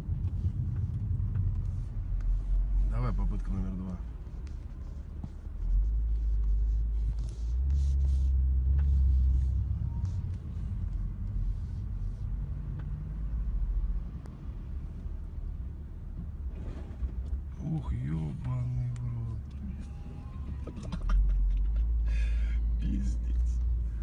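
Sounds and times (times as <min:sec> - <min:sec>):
road traffic rumble inside car: 0:00.0 - 0:24.0.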